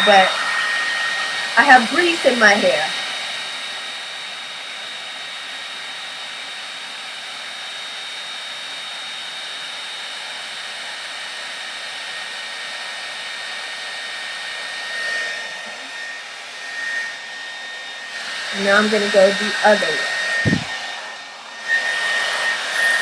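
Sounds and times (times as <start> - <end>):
blow dryer running: 0.0 - 23.0.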